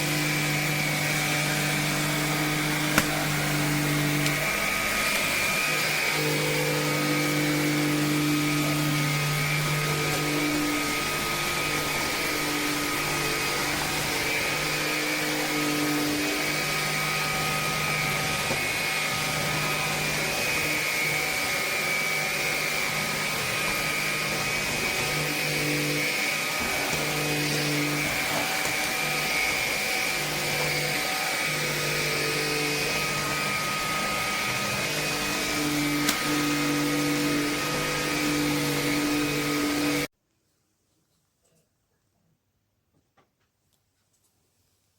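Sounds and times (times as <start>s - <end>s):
vacuum cleaner running: 0.0s - 40.1s.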